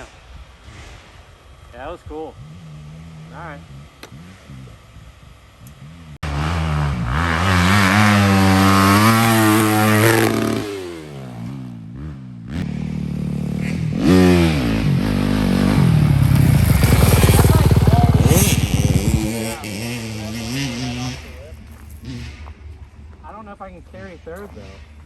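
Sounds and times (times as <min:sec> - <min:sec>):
dirt bike engine revving: 0:01.8 - 0:25.0.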